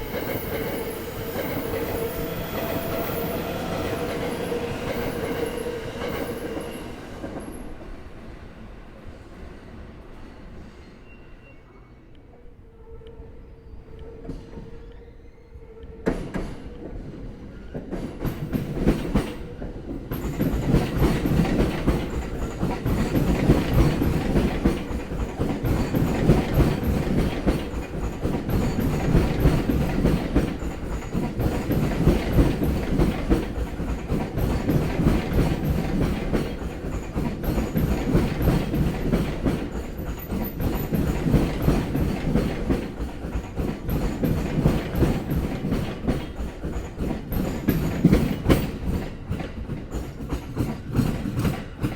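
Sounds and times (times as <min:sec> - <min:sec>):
train wheels clickety-clack: 0:00.0 - 0:08.2, 0:13.9 - 0:15.1, 0:15.7 - 0:51.9.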